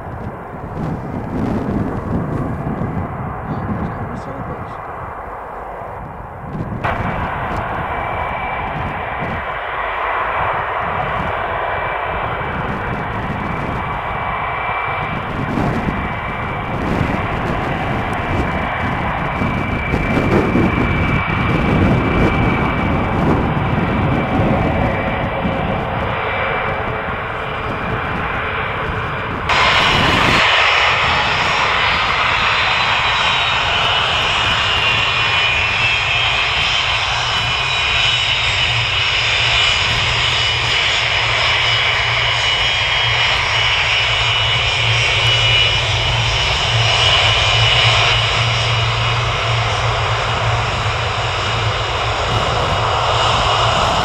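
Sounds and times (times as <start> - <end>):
high fan whine: 0.0 - 54.0
jet engines at low thrust: 0.0 - 54.0
low hum: 0.0 - 54.0.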